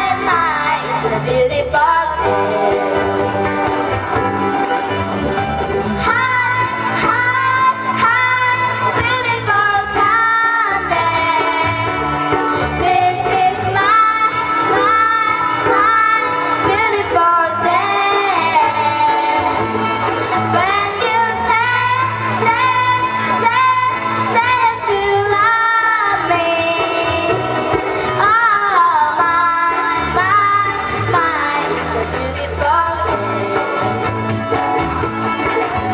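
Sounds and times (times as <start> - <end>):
high voices singing: 0.0 - 35.9.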